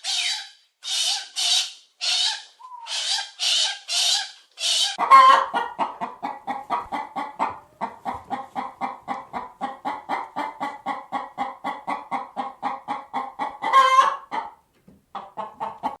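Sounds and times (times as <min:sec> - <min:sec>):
chicken squawk: 0:00.0 - 0:14.6
chicken clucking: 0:00.0 - 0:16.0.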